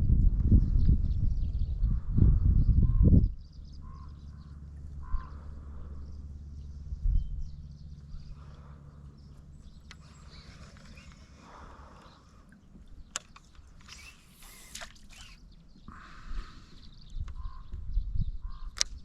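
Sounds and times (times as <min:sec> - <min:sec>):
low engine-like drone: 0:00.0 - 0:19.0.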